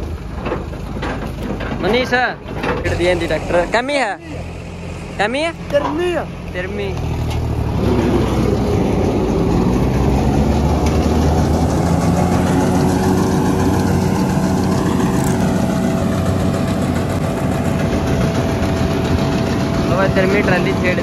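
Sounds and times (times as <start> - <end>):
tractor engine hum: 0.0 - 21.0.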